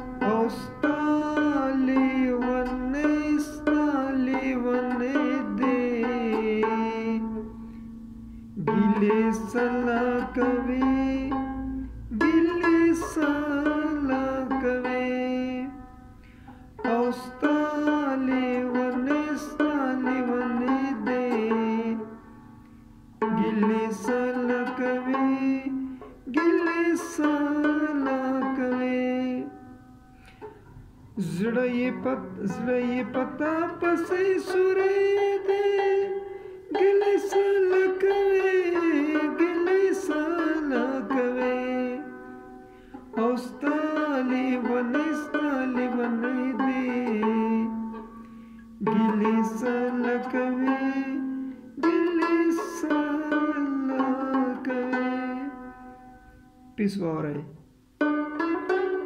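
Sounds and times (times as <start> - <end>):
plucked lute melody: 0.0 - 59.0.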